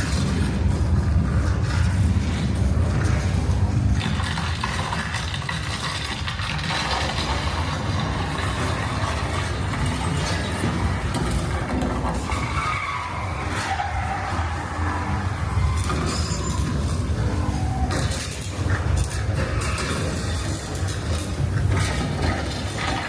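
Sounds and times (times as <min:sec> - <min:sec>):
low vehicle rumble: 0:00.0 - 0:23.0.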